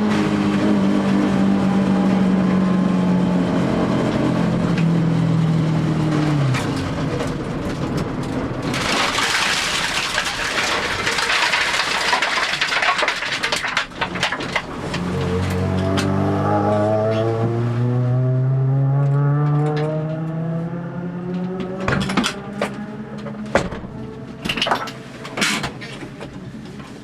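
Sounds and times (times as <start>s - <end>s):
four-cylinder engine: 0.0s - 27.0s.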